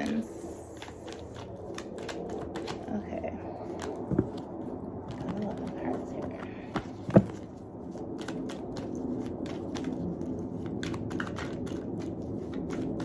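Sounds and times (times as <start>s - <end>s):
cards being shuffled: 0.0s - 3.0s, 3.6s - 13.0s.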